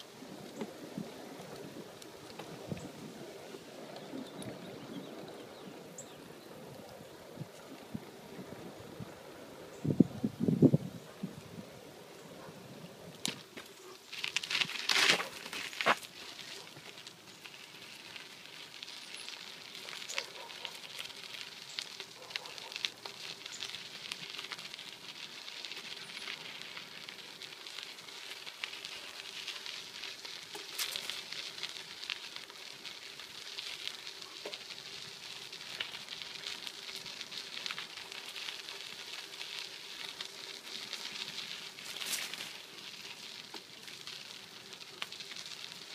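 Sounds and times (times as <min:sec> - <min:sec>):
bicycle tyres crunching on gravel: 0:00.0 - 0:45.9.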